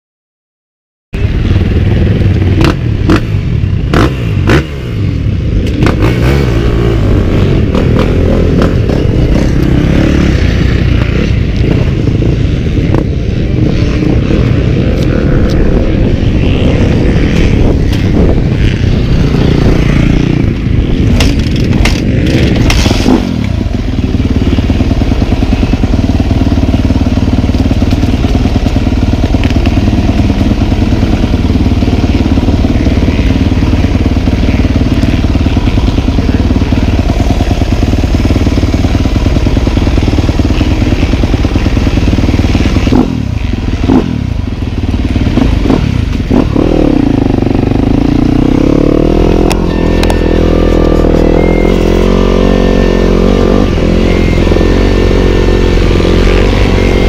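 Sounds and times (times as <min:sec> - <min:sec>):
motorcycle engine idling: 0:01.2 - 0:57.0.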